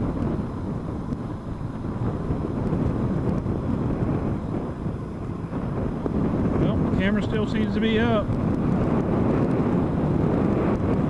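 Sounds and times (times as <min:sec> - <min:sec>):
vehicle engine and road noise: 0:00.0 - 0:11.0
wind buffeting microphone: 0:00.0 - 0:11.0.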